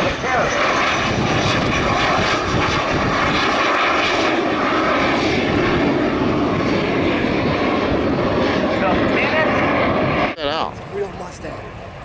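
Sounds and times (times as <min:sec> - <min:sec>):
airplane engine flying overhead: 0:00.0 - 0:12.0.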